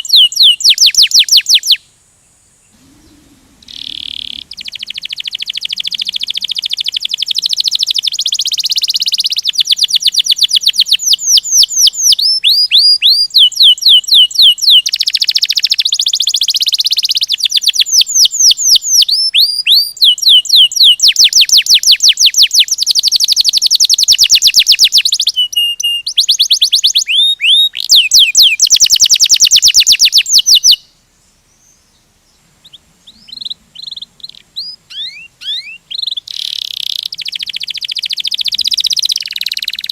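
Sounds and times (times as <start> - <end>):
canary singing trills: 0.0 - 1.8, 2.6 - 31.0, 31.6 - 39.9
soft bird chirps: 0.0 - 39.9.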